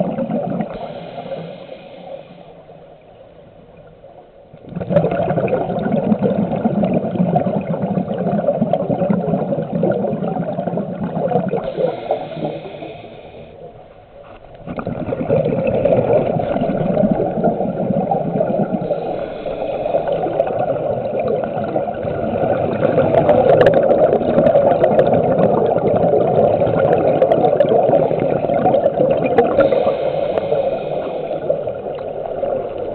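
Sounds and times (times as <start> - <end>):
underwater rushing and bubbling: 0.0 - 32.9.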